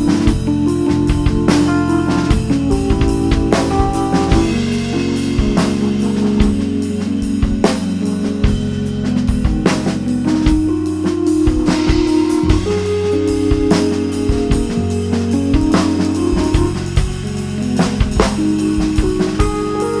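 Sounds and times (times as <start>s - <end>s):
bass line: 0.0s - 20.0s
busy drumming: 0.0s - 20.0s
electronic keyboard notes: 0.0s - 20.0s.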